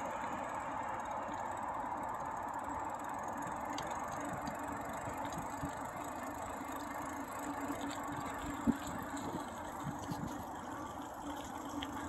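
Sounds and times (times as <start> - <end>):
bicycle tyres rolling on wet path: 0.0 - 12.0
bike ticks and rattles: 0.0 - 12.0.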